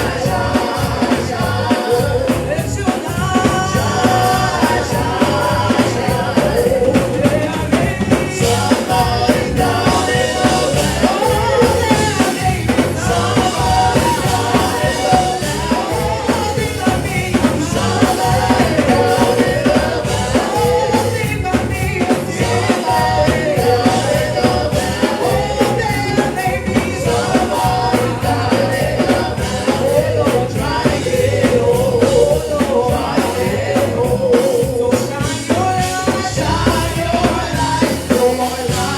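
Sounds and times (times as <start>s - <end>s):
gospel band with drums: 0.0s - 38.9s
voices singing: 0.0s - 38.9s.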